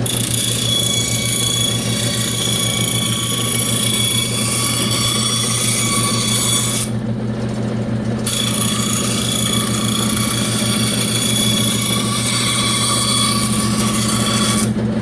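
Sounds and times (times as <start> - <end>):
bandsaw motor hum: 0.0 - 15.0.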